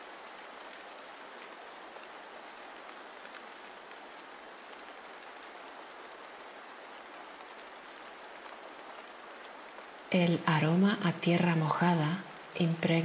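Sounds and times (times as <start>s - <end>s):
gentle rain patter: 0.0s - 13.0s.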